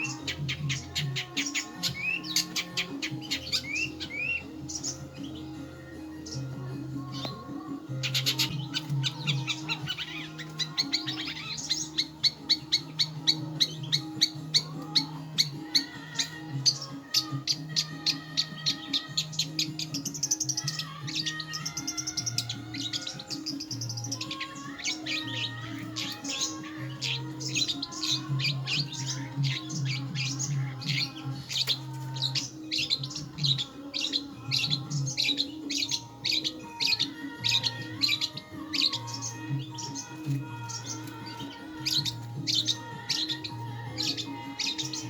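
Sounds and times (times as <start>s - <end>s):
bird song with rapid chirps: 0.0s - 45.0s.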